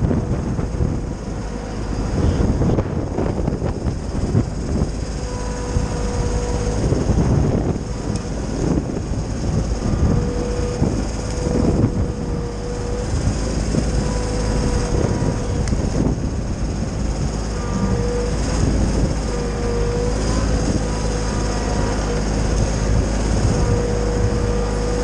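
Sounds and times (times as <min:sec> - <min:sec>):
faint machine whine: 0:00.0 - 0:25.0
wood chipper chipping branches: 0:00.0 - 0:25.0.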